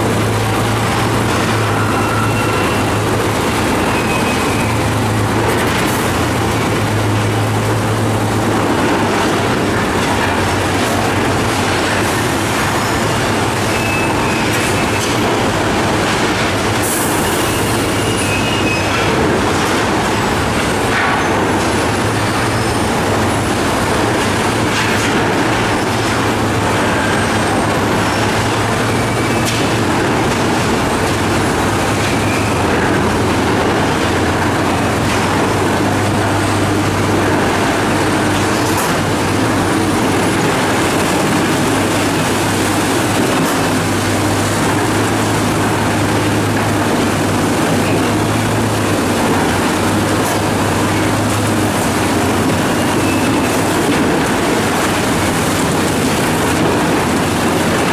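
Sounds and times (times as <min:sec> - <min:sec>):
diesel engine running: 0:00.0 - 0:57.9
rattling mechanical din: 0:00.0 - 0:57.9.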